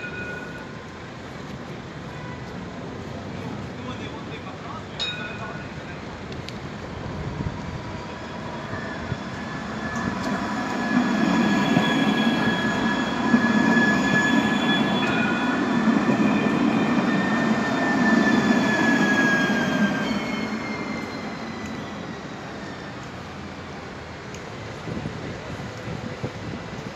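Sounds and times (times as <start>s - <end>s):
tram wheels rumbling on rails: 0.0s - 26.9s
tram high whine: 5.1s - 26.9s.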